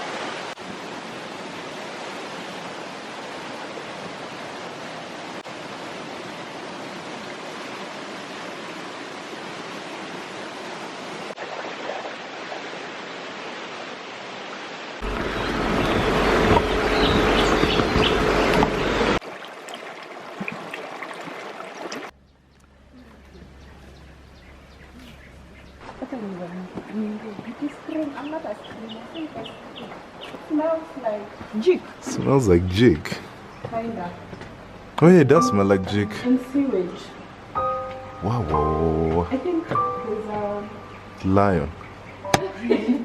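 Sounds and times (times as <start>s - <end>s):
stream water rushing: 0.0s - 22.2s, 25.2s - 43.0s.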